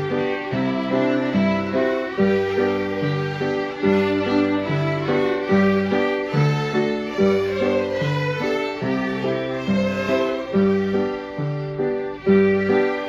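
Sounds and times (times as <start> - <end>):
fiddles playing a tune: 0.0 - 13.0.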